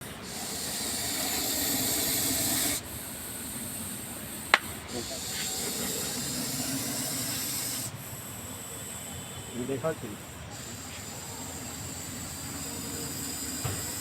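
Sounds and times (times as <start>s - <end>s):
snake hissing: 0.0s - 14.0s.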